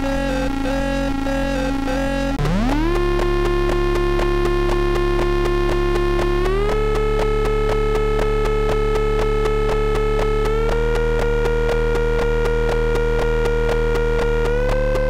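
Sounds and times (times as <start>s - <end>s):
dirty synth feedback tone: 0.0s - 15.0s
fast regular ticking pulse: 0.0s - 15.0s
low hum: 0.0s - 15.0s.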